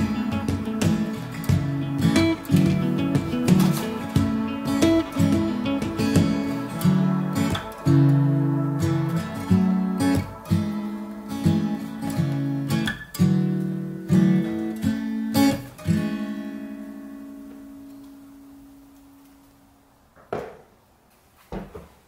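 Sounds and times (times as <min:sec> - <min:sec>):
acoustic guitar chords: 0:00.0 - 0:19.7.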